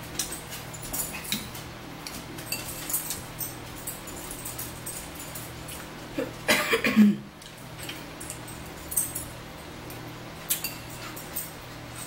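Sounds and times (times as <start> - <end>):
steady low hum: 0.0 - 12.0
forks clinking against plates: 0.1 - 5.9, 7.4 - 12.0.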